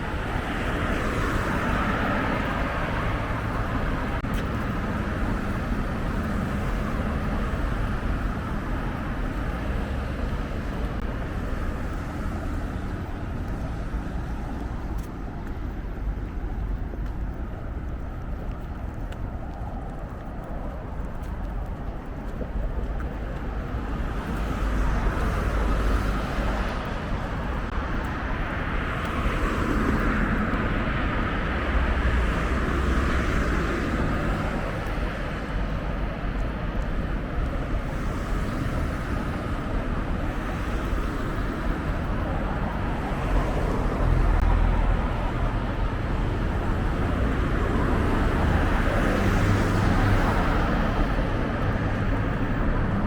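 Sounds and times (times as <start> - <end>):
cars passing: 0.0 - 53.0
road traffic background: 0.0 - 53.0.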